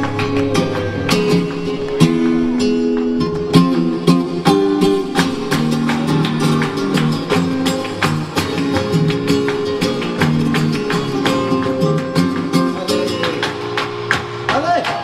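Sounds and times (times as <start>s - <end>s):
flamenco guitars playing: 0.0s - 15.0s.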